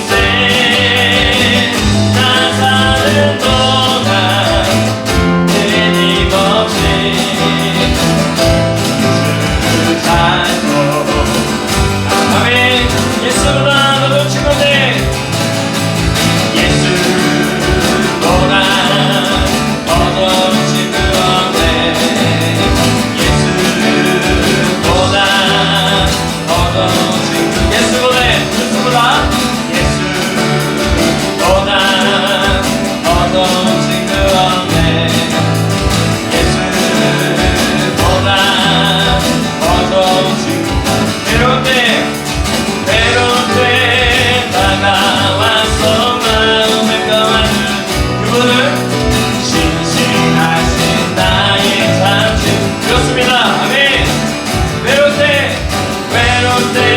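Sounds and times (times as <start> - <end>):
acoustic guitar: 0.0 - 56.9
bass guitar: 0.0 - 56.9
keyboard: 0.0 - 56.9
people singing: 0.0 - 56.9.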